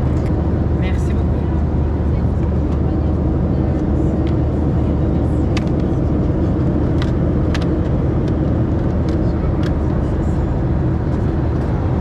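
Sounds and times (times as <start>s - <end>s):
airplane cabin roar: 0.0s - 12.0s.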